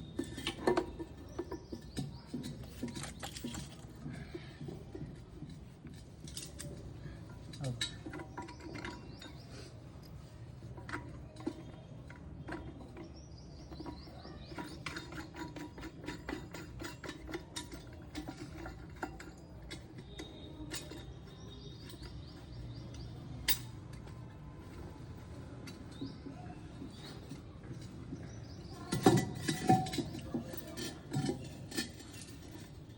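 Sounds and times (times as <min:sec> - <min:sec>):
metallic clicks and clinks: 0:00.0 - 0:32.9.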